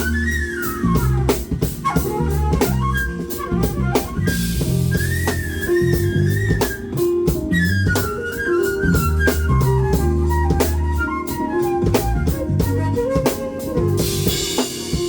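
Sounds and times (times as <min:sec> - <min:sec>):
bass line: 0:00.0 - 0:15.0
drum kit beat: 0:00.0 - 0:15.0
flute melody: 0:00.0 - 0:15.0
jazz band playing: 0:00.0 - 0:15.0.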